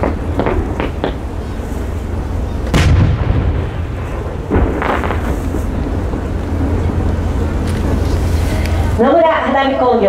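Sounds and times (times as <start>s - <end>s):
fireworks booming: 0.0s - 9.0s
fireworks rattle: 0.0s - 9.4s.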